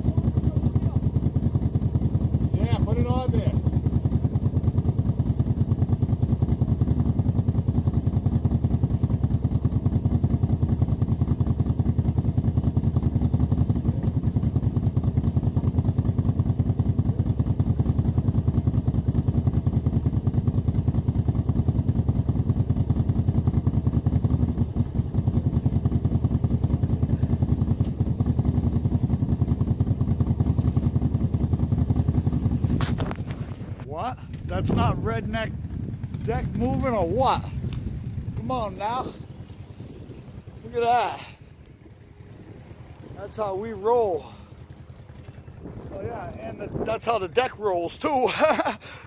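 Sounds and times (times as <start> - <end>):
atv engine running under load: 0.0 - 49.0.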